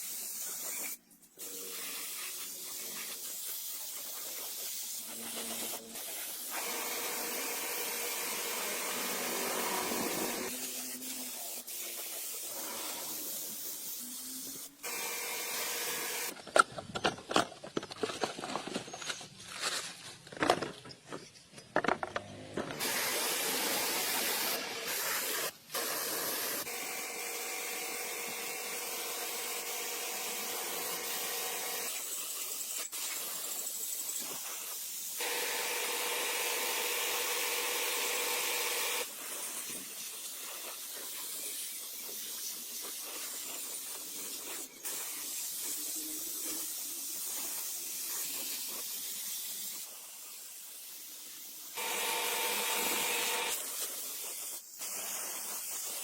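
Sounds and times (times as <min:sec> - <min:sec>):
hissing spray with whistling tones: 0:00.0 - 0:16.3, 0:22.8 - 0:56.0.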